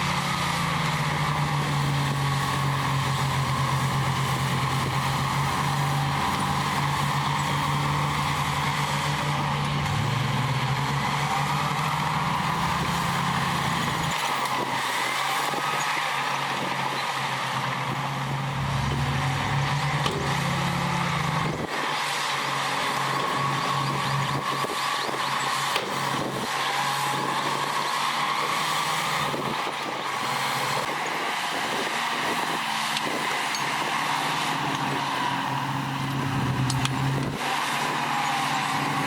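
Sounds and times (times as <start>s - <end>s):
heavy diesel engine droning: 0.0s - 39.0s.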